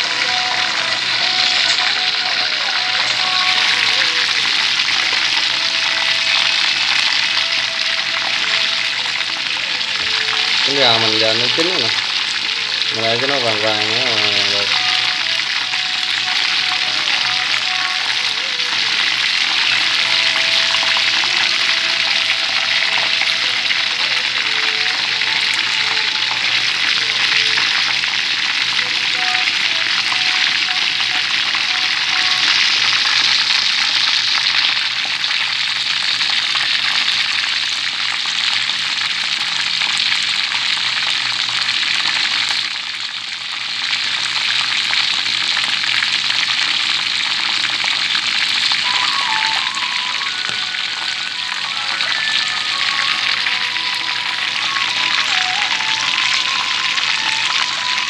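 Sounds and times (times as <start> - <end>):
chicken wings sizzling in oil: 0.0 - 58.0.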